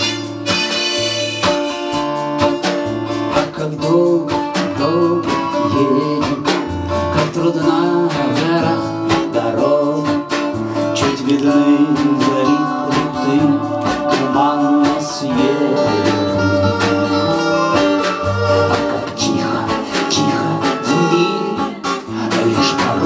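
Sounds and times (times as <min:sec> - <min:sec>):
acoustic guitar strumming: 0:00.0 - 0:23.0
bending guitar melody: 0:00.0 - 0:23.0.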